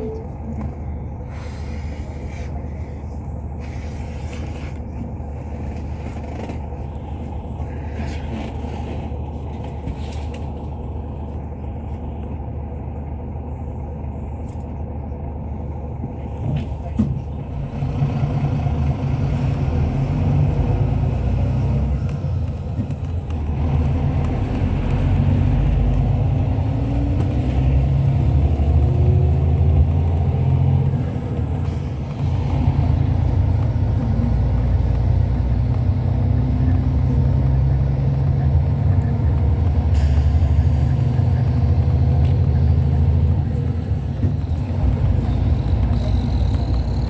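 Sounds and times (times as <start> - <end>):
coach engine and road drone: 0.0 - 47.0.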